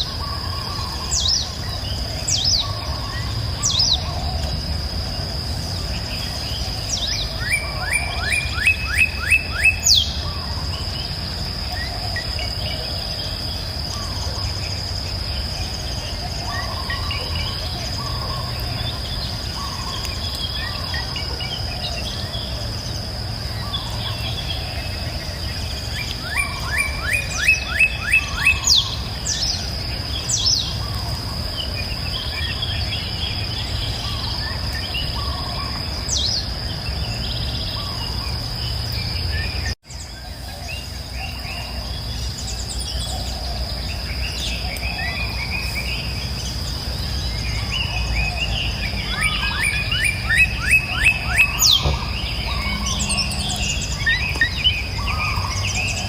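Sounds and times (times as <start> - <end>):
birds singing and chirping: 0.0 - 56.0
insect trill: 0.0 - 56.0.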